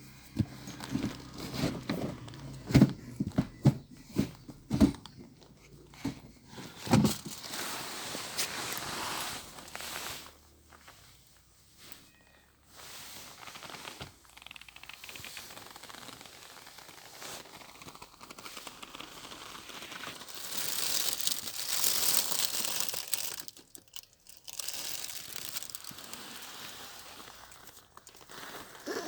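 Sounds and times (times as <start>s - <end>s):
crinkling and rustling handling noise: 0.0s - 29.0s.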